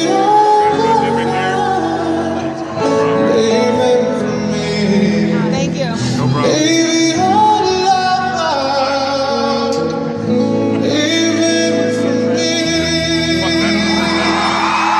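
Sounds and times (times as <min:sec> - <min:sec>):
guitar accompaniment: 0:00.0 - 0:14.9
man singing: 0:00.0 - 0:14.9.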